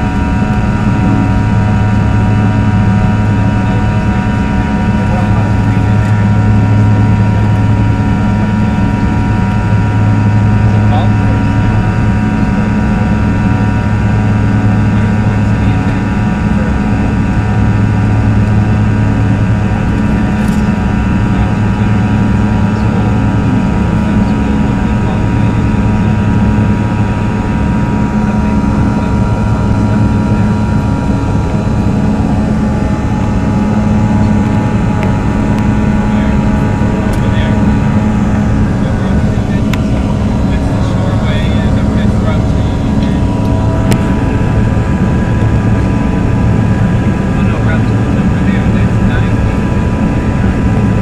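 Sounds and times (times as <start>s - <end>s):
jet engine cabin drone: 0.0s - 51.0s
thin whining engine tones: 0.0s - 51.0s.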